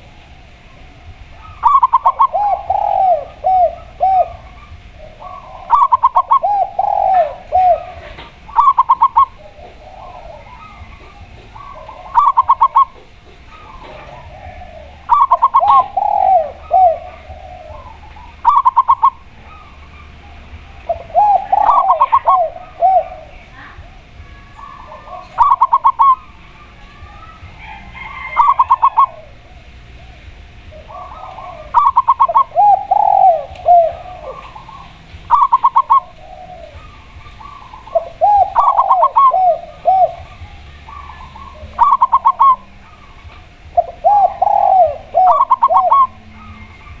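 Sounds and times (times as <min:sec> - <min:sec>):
low arching dove coos: 0:00.0 - 0:47.0.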